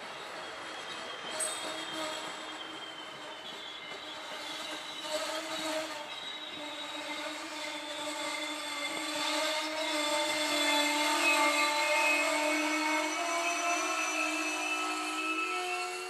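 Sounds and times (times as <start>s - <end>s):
train squealing past: 0.0s - 16.0s.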